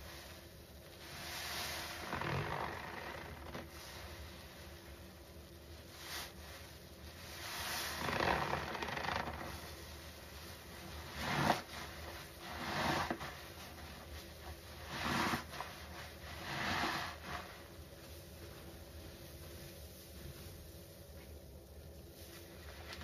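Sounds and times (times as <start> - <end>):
foam sponge squelching: 0.0 - 20.6.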